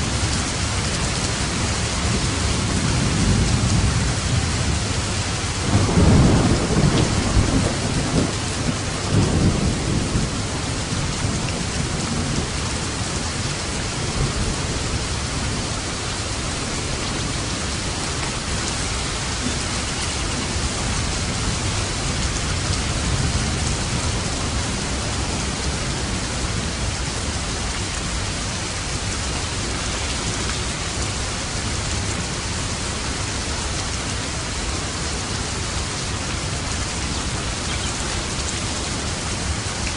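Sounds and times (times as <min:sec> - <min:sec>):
thunder rumbling: 0:00.0 - 0:34.0
heavy rain: 0:00.0 - 0:39.9.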